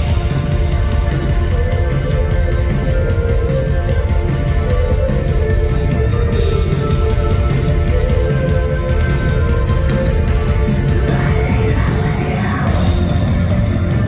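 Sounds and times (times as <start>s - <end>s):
heavy rock band playing live: 0.0s - 14.0s.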